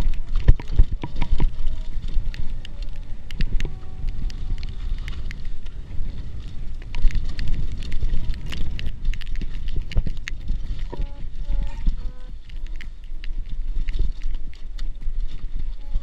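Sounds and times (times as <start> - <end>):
bike clicks and rattles: 0.0 - 16.0
wind on microphone: 0.0 - 16.0.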